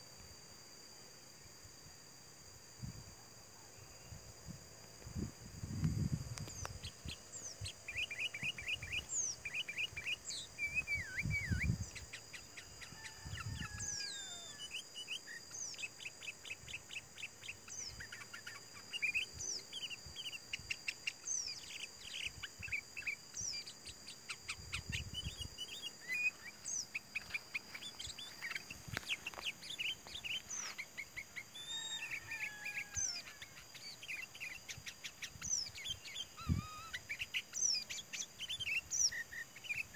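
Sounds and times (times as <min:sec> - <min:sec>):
birds chirping and whistling: 0:06.6 - 0:12.2, 0:12.8 - 0:39.9.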